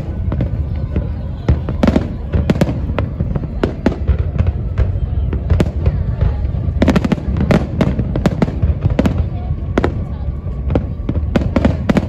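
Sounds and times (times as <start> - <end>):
firework crackling: 0.0 - 12.0
low rumble: 0.0 - 12.0.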